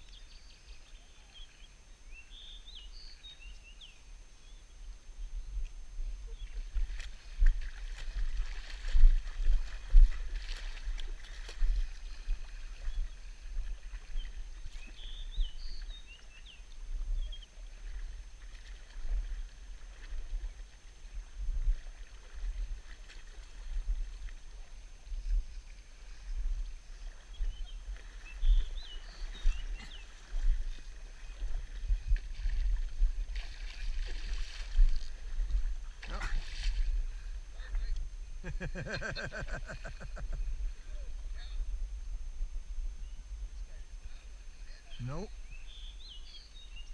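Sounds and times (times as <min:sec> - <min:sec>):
flowing water: 0:00.0 - 0:38.6
wind rumble on microphone: 0:04.7 - 0:46.9.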